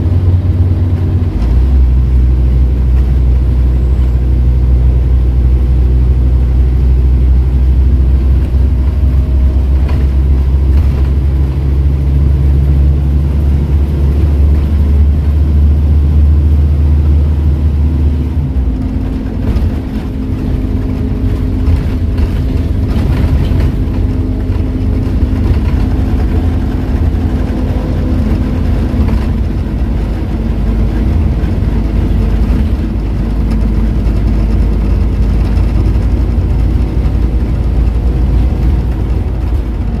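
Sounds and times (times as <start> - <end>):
bus engine hum: 0.0 - 40.0.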